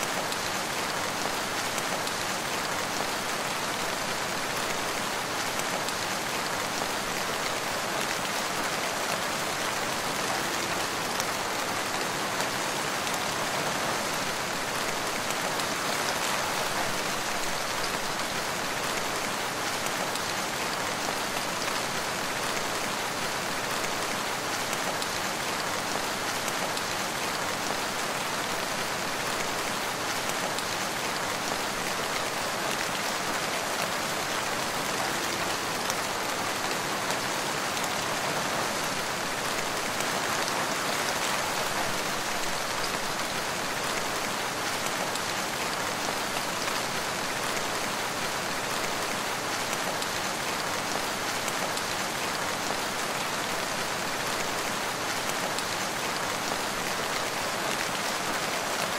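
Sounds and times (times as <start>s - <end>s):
rain pattering on leaves: 0.1s - 58.9s.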